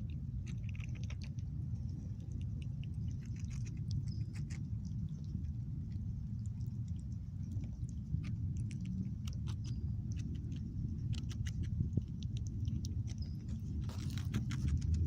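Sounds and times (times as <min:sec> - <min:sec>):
squirrel chewing: 0:00.0 - 0:15.0
steady low rumble: 0:00.0 - 0:15.0.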